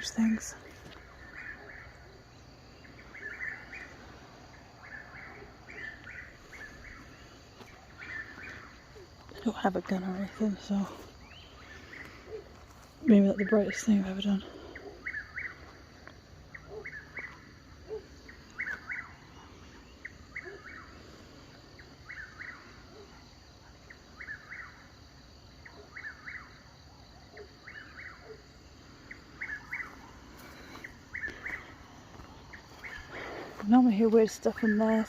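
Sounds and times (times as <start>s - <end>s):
faint outdoor background: 0.0s - 35.0s.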